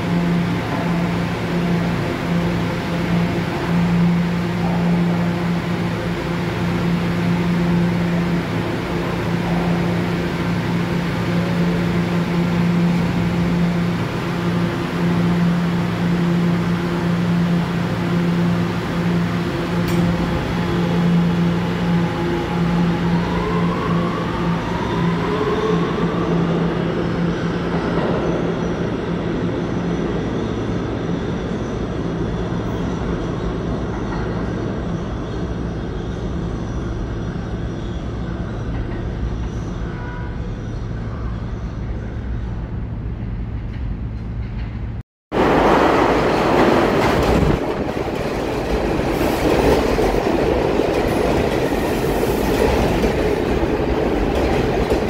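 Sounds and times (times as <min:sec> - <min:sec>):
subway train electrical hum: 0:00.0 - 0:55.0
train propulsion whine: 0:00.0 - 0:55.0.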